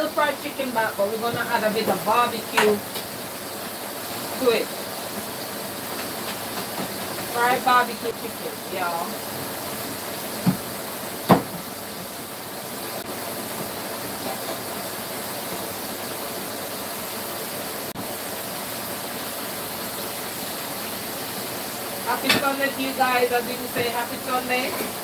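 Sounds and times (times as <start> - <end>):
chicken frying in oil: 0.0 - 25.0.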